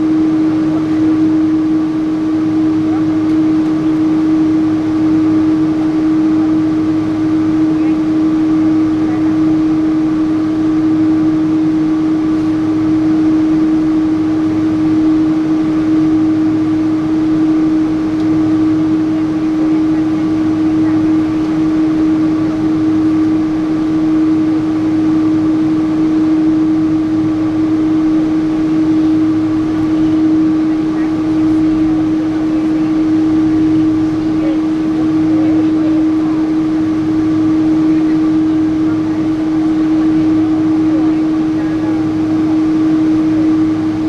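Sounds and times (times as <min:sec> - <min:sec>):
airliner cabin drone: 0:00.0 - 0:44.0
constant pitched hum: 0:00.0 - 0:44.0.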